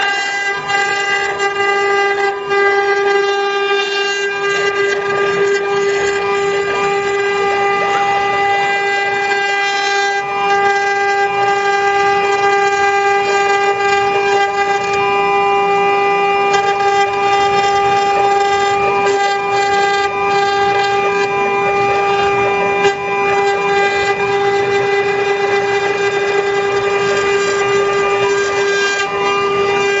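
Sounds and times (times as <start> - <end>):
router spindle high whine: 0.0 - 30.0.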